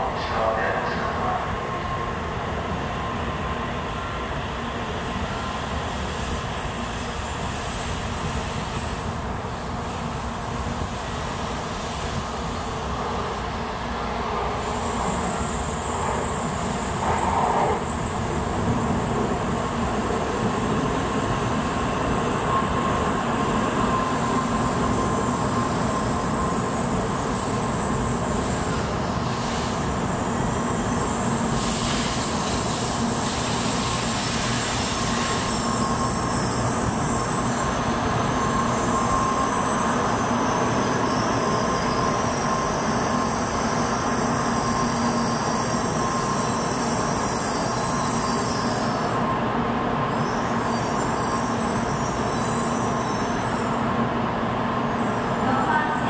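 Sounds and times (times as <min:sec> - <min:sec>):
train rolling and braking: 0:00.0 - 0:56.0.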